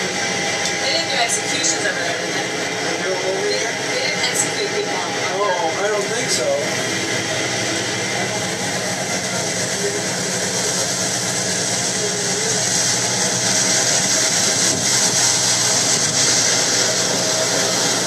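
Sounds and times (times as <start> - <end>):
boat engines droning: 0.0 - 18.0.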